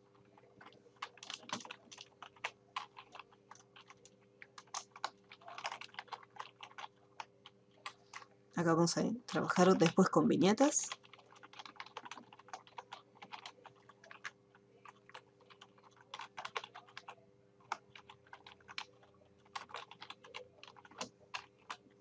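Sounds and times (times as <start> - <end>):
typing on computer keyboard: 0.3 - 8.3, 9.6 - 10.1, 10.8 - 22.0.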